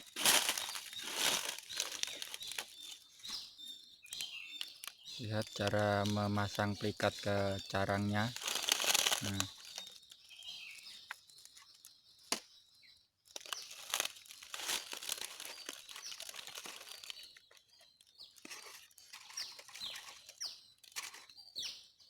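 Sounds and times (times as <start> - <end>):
rustling and crinkling: 0.0 - 3.5, 4.1 - 11.9, 13.3 - 21.4
small birds chirping: 0.0 - 22.0.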